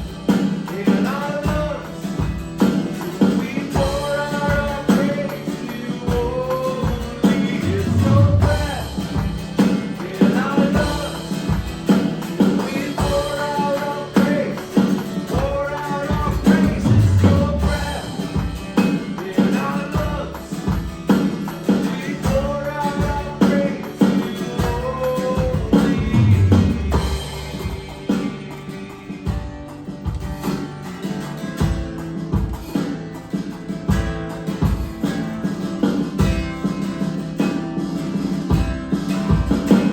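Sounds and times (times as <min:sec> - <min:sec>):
steady drum beat: 0:00.0 - 0:39.9
strummed acoustic guitar: 0:00.0 - 0:39.9
worship band playing: 0:00.0 - 0:39.9.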